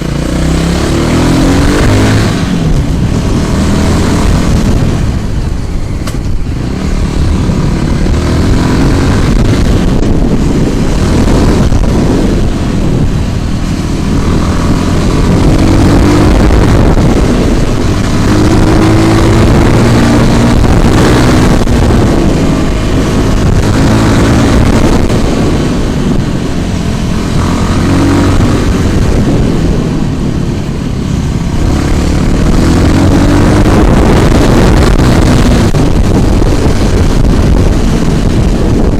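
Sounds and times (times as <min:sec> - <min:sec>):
scooter motor revving: 0:00.0 - 0:30.4, 0:31.2 - 0:38.9
wind buffeting microphone: 0:00.0 - 0:38.9.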